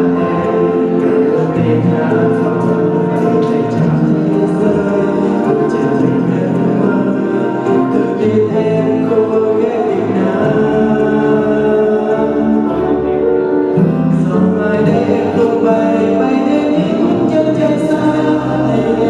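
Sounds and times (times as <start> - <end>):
man singing into microphone: 0.0 - 19.0
musical backing track: 0.0 - 19.0.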